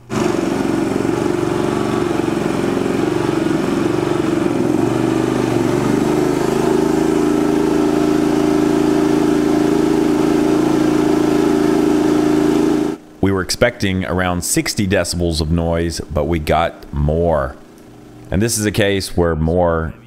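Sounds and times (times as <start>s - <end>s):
generator engine droning: 0.0s - 20.0s.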